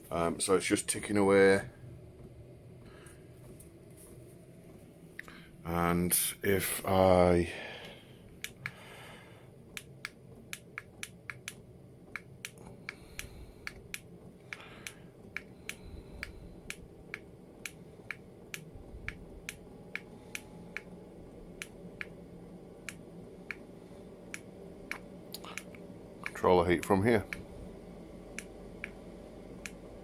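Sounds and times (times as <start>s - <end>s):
low fan hum: 0.0s - 30.0s.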